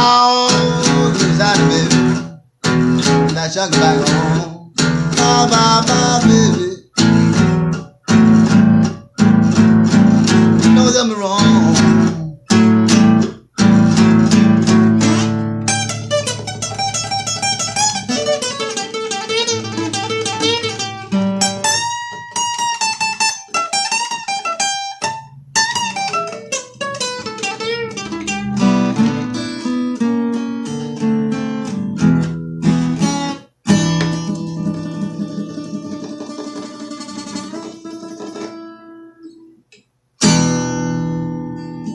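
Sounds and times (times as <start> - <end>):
acoustic blues guitar: 0.0 - 41.9.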